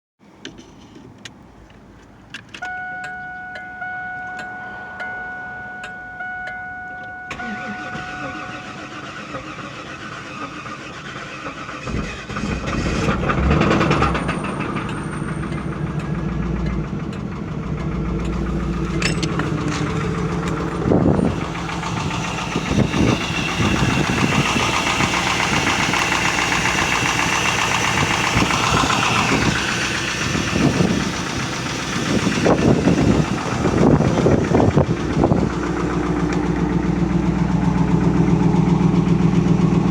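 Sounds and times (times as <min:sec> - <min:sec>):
car engine running: 0:02.7 - 0:39.9
engine knocking: 0:07.4 - 0:39.9.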